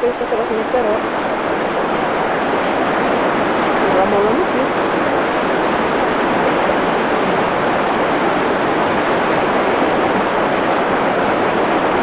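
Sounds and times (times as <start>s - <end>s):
fast-flowing water rushing: 0.0s - 12.0s.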